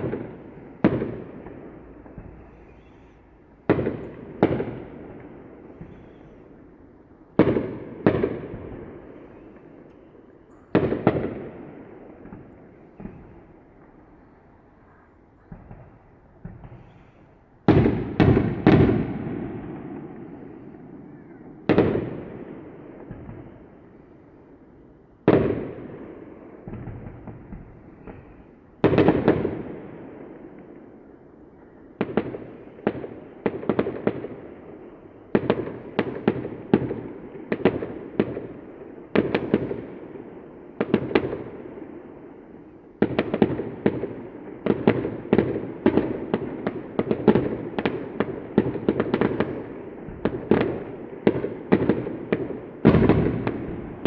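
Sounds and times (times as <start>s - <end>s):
firework bangs with echoing rumble: 0.0s - 6.6s, 7.2s - 9.7s, 10.7s - 14.0s, 15.4s - 24.2s, 25.2s - 30.9s, 31.6s - 42.2s, 43.0s - 54.0s
firework crackles: 0.0s - 54.0s.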